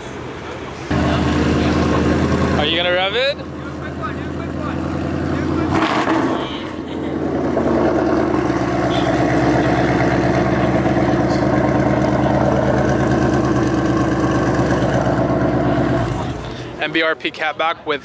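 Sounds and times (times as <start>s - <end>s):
loud car engine running: 0.9s - 16.9s.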